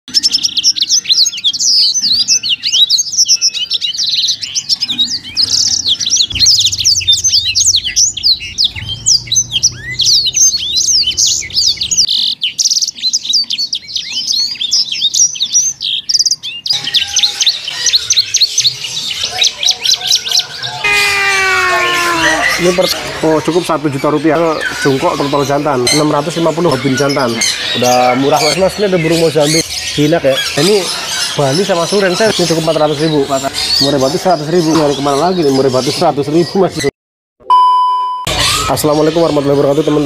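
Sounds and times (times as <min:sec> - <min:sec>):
caged songbirds chirping: 0:00.1 - 0:36.9, 0:38.3 - 0:40.0.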